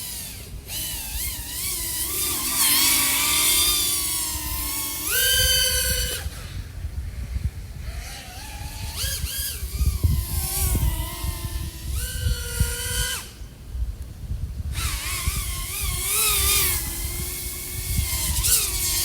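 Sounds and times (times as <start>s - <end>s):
drone motors whining: 0.0s - 13.7s, 14.7s - 19.0s.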